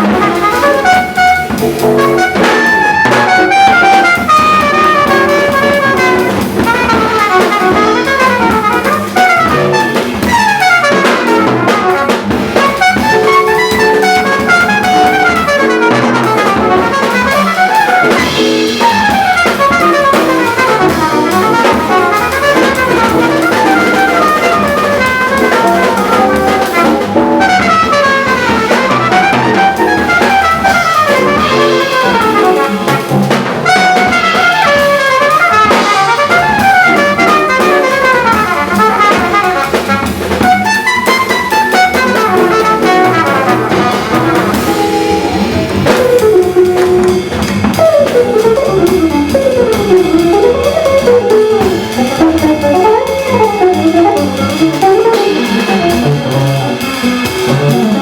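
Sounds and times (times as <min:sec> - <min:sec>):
fast trumpet runs: 0:00.0 - 0:58.0
up-tempo jazz: 0:00.0 - 0:58.0.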